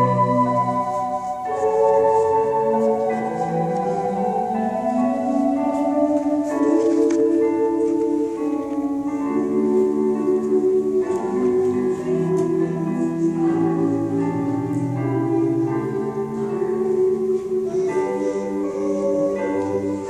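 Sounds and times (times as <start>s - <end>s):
slow instrumental music: 0.0s - 20.0s.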